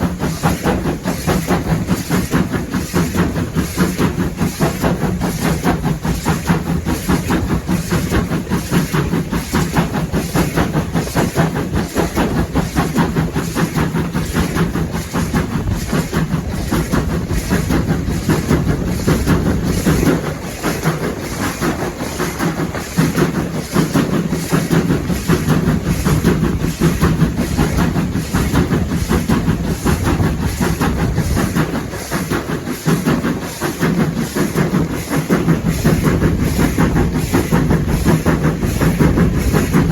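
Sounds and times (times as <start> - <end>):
train rumbling: 0.0 - 39.9
wheels clacking over rail joints: 0.0 - 39.9.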